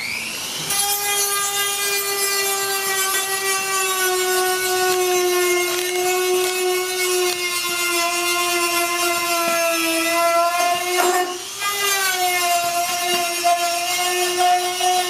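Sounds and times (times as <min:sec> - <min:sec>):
cutting tool whining into metal: 0:00.0 - 0:15.0.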